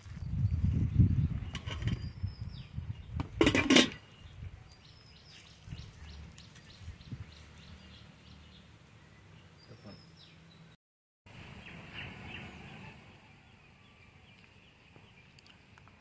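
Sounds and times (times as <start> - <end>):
small birds chirping: 0.0 - 10.8, 11.4 - 16.0.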